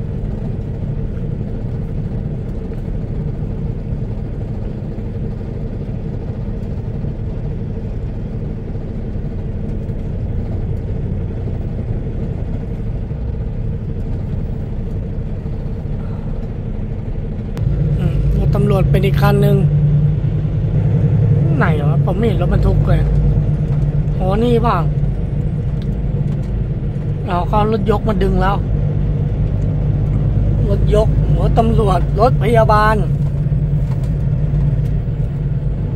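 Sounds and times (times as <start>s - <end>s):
road noise: 0.0s - 35.9s
truck diesel engine rumble: 0.0s - 35.9s.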